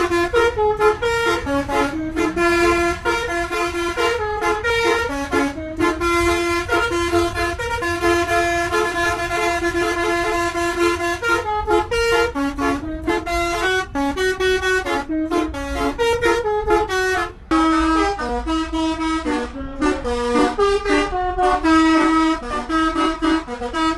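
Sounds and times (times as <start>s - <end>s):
bus horn tune on keyboard: 0.0s - 23.9s.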